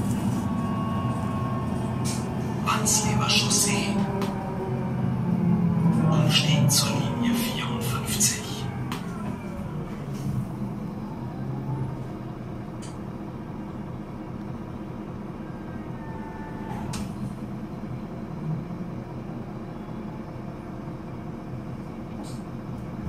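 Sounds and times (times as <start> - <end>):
diesel bus engine idling: 0.0 - 23.0.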